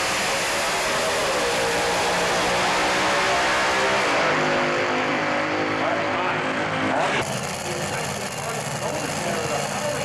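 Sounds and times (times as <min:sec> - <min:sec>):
dragster engines at full throttle: 0:00.0 - 0:10.0.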